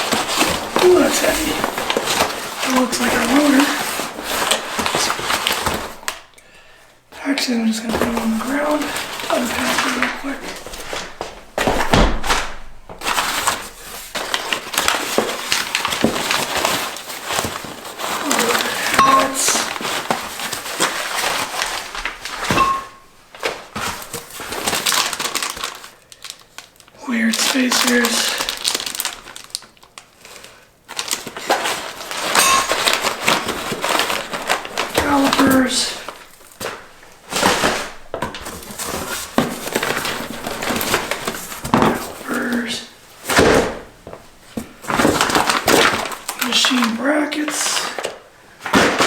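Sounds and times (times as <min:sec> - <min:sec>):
packaging rustling and crinkling: 0:00.0 - 0:49.0.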